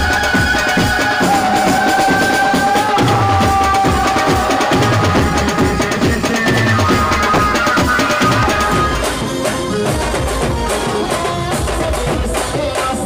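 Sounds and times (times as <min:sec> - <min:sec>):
melody over fast drumming: 0:00.0 - 0:13.0.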